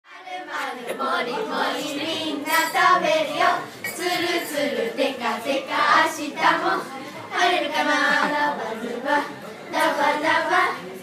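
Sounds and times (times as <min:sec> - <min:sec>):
child singing: 0:00.1 - 0:10.8.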